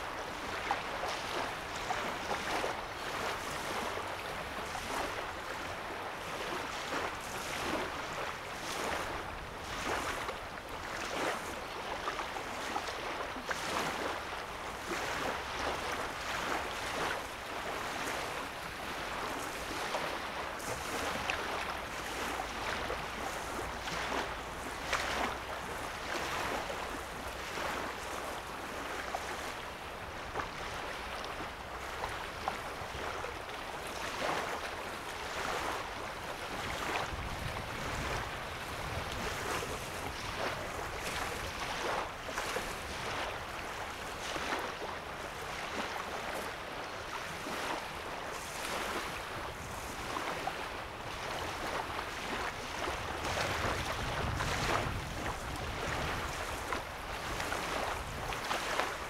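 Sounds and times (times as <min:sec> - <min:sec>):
waves lapping on shore: 0:00.0 - 0:59.0.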